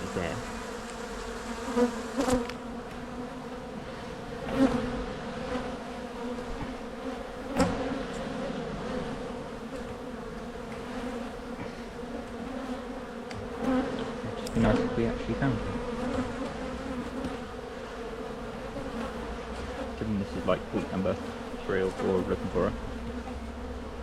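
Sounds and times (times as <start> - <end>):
honey bees humming: 0.0 - 24.0.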